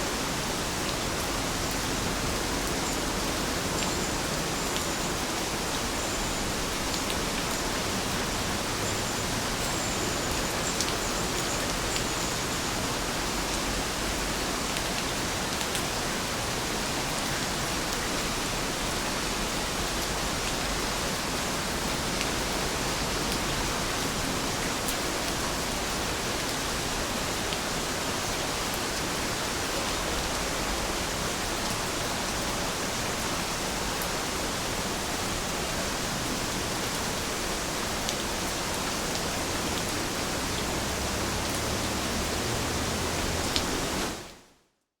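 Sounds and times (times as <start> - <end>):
steady rain falling: 0.0 - 44.6.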